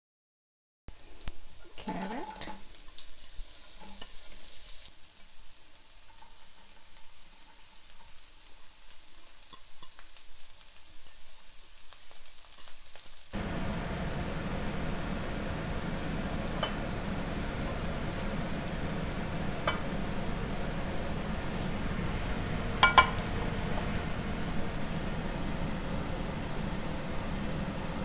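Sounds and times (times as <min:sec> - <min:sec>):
vegetables sizzling in a wok: 0:00.9 - 0:28.0.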